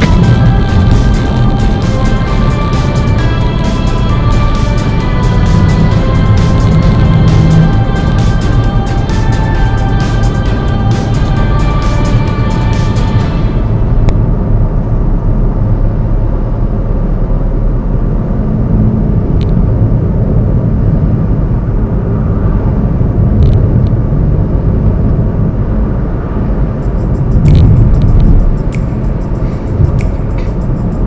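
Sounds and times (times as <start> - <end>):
car engine rumbling: 0.0 - 31.0
tyres on road: 0.0 - 31.0.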